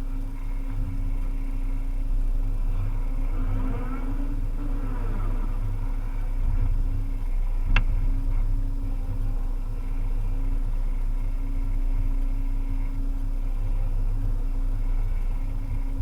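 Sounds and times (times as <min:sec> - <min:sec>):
excavator diesel engine running: 0:00.0 - 0:16.0
hydraulic whine: 0:00.0 - 0:16.0.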